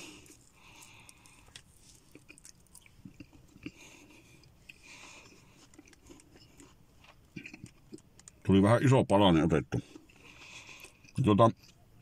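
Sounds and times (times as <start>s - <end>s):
faint chewing: 0.0s - 8.5s, 9.8s - 12.0s.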